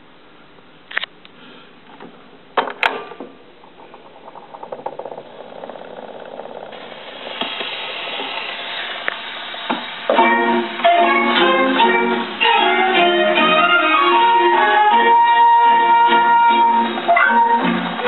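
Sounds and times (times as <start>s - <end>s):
record surface crackle and hiss: 0.0s - 18.0s.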